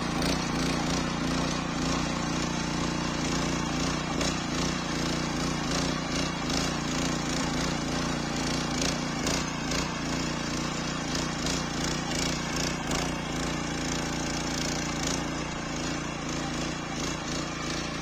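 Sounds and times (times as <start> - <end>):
tiller engine running: 0.0 - 18.0.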